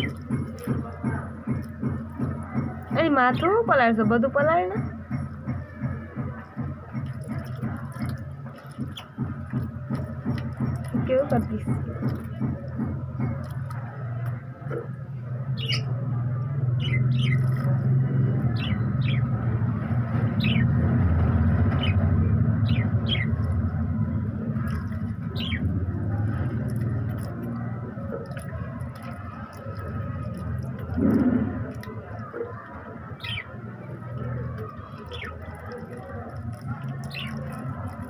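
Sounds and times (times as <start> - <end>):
steady low rumble: 6.4 - 38.0.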